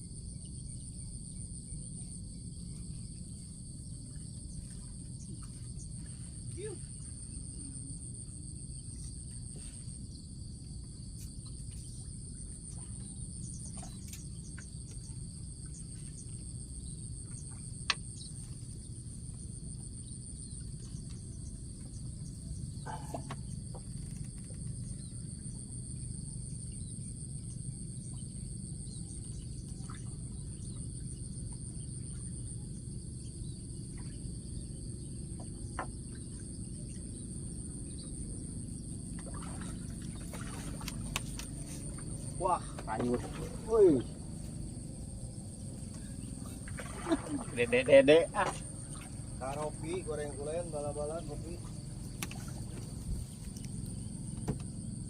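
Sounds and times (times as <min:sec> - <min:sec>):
insects trilling: 0:00.0 - 0:55.0
low steady rumble: 0:00.0 - 0:55.0.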